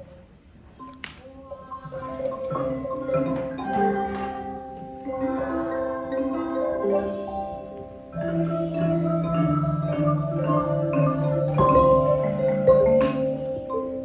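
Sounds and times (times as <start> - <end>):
mallet percussion chords: 1.6 - 14.0.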